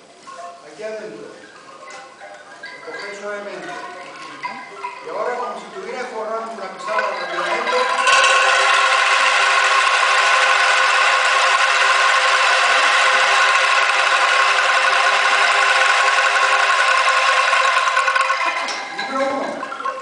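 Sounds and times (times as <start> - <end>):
bamboo angklungs rattling: 1.4 - 20.0.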